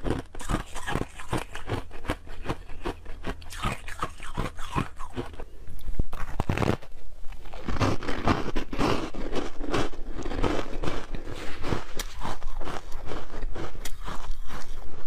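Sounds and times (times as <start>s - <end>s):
chewing and crunching ice: 0.0s - 15.0s
crunching frozen milk: 0.0s - 15.0s.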